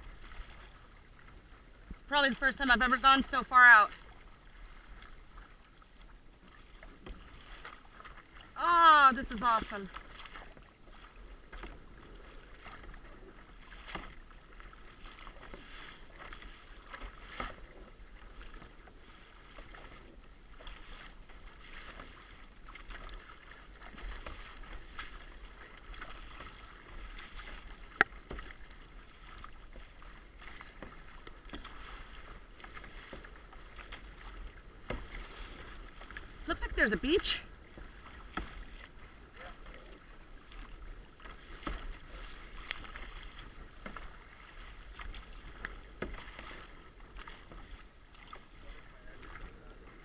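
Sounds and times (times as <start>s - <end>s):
kayak paddle splashing water: 0.0s - 50.0s.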